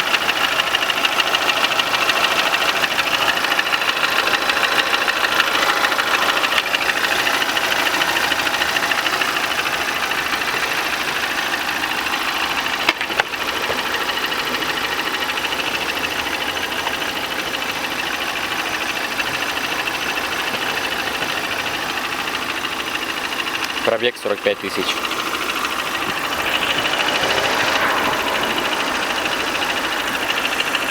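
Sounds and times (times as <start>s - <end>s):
car engine idling: 0.0s - 30.9s
fast steady ticking: 0.0s - 30.9s.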